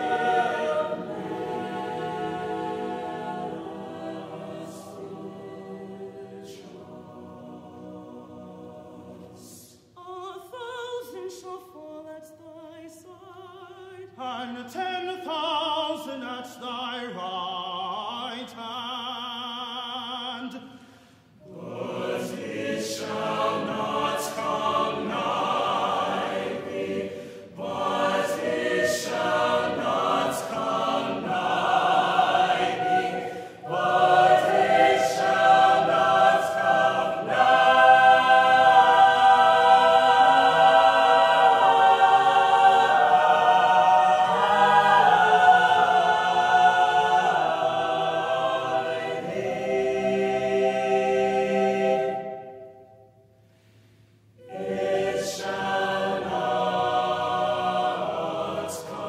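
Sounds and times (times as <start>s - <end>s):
mixed choir singing in harmony: 0.0s - 53.4s, 54.4s - 59.0s.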